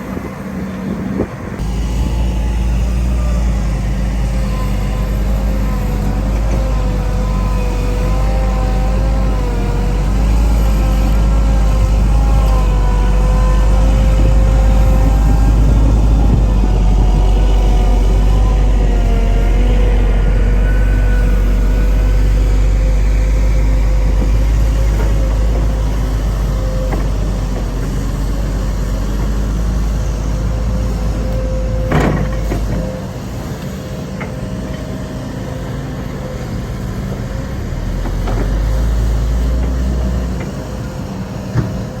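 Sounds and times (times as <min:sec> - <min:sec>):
diesel machinery rumbling: 0:00.0 - 0:42.0
held machine whine: 0:00.0 - 0:42.0.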